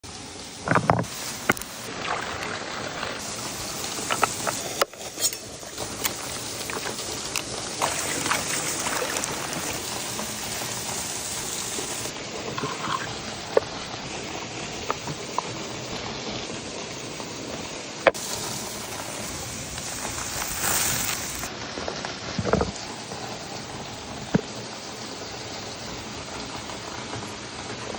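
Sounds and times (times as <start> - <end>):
sizzling hiss: 0.0 - 27.9
burning wood crackling: 0.1 - 27.9.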